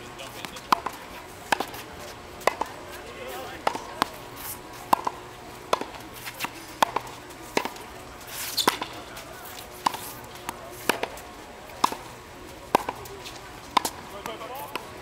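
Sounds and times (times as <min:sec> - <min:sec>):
tennis racket striking ball: 0:00.2 - 0:15.0.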